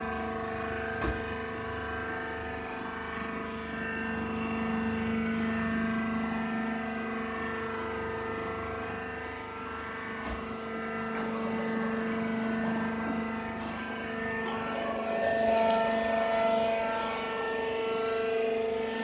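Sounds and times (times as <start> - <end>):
machine hum with fixed tones: 0.0 - 19.0.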